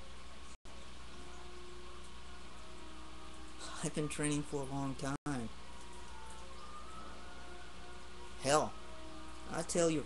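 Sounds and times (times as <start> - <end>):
low hum: 0.0 - 9.7
faint steady tones: 0.0 - 10.0.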